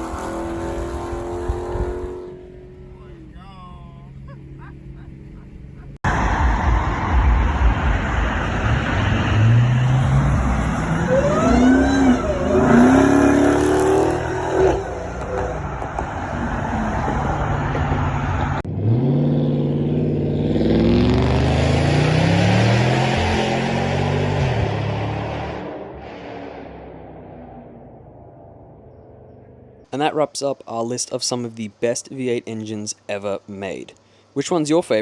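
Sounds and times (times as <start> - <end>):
car engine accelerating hard: 0.0 - 3.0, 4.2 - 29.6.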